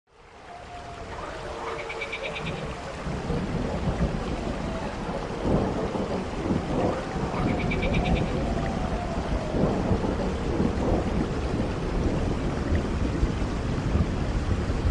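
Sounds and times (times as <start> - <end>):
heavy rain: 0.1 - 14.9
thunder rumble: 0.2 - 14.9.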